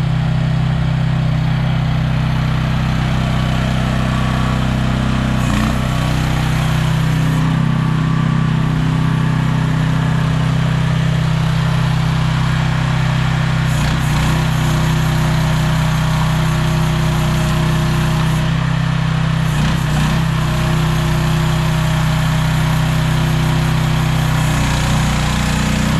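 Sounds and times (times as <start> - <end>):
mini excavator engine running: 0.0 - 25.9.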